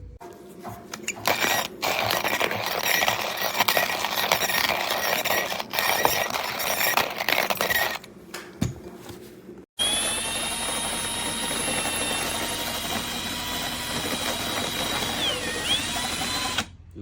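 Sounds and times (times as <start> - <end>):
coffee grinder grinding beans: 1.0 - 8.1, 9.8 - 16.6.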